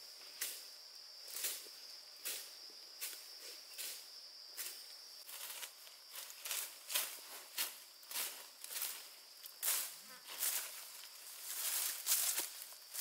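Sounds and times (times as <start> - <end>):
high-pitched insect drone: 0.0 - 13.0
footsteps crunching dry vegetation: 0.9 - 13.0.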